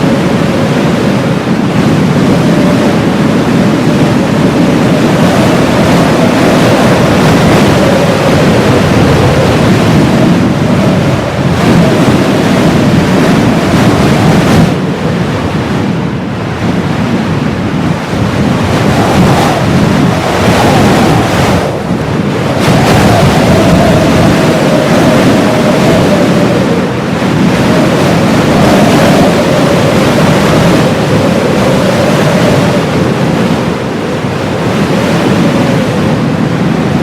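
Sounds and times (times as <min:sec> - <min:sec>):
blizzard wind gusting: 0:00.0 - 0:37.0.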